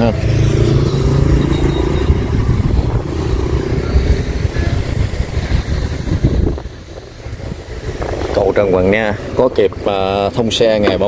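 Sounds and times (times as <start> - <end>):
highway traffic rumble: 0.0 - 11.0.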